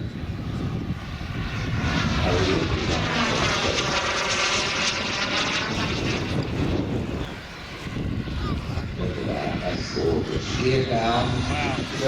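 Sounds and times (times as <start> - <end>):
jet turbine flying past: 0.0 - 12.0.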